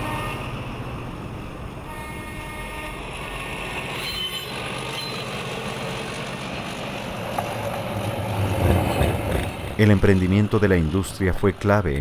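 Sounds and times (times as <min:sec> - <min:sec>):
diesel locomotive engine: 0:00.0 - 0:12.0.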